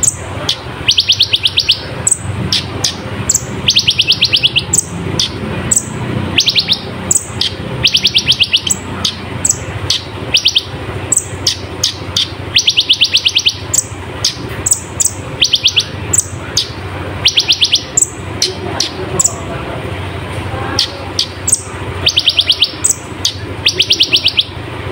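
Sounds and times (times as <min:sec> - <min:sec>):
sharp high bird chips: 0:00.0 - 0:19.4, 0:20.8 - 0:24.6
sunbird singing trills: 0:00.0 - 0:19.5, 0:20.8 - 0:24.6.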